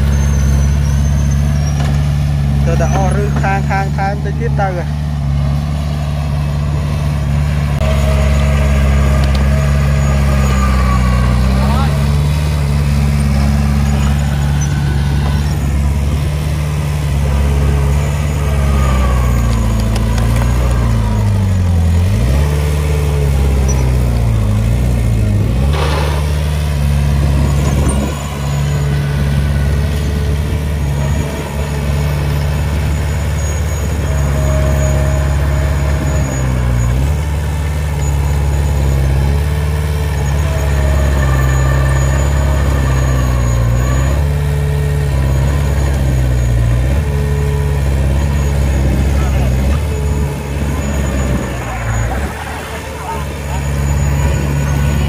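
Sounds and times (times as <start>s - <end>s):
dozer diesel engine running hard: 0.0s - 55.0s.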